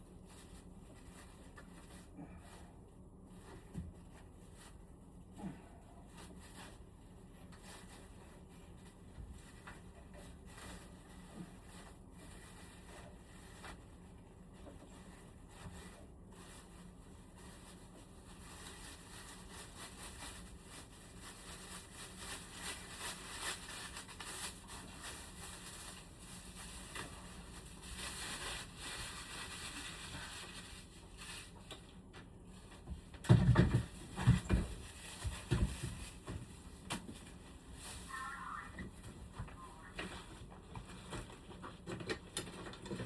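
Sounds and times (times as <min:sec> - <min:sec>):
rustling and scraping: 0:00.0 - 0:43.0.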